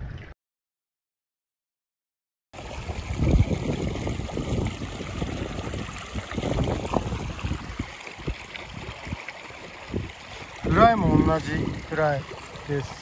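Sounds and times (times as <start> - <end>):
stream water trickling: 0.0 - 0.4, 2.6 - 13.0
wind buffeting microphone: 2.6 - 13.0.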